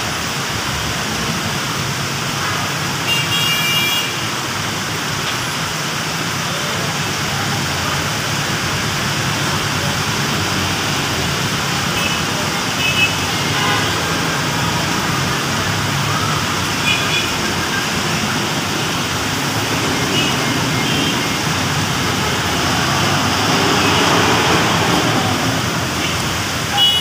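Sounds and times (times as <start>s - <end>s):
heavy rain pouring: 0.0s - 27.0s
road traffic: 0.0s - 27.0s.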